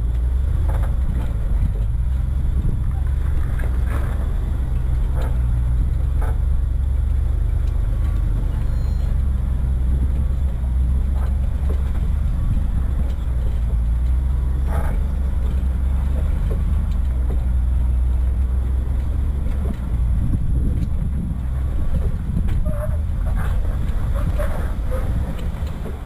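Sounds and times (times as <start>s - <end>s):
engine rumbling at low speed: 0.0s - 26.0s
vehicle knocking on rough ground: 0.0s - 26.0s.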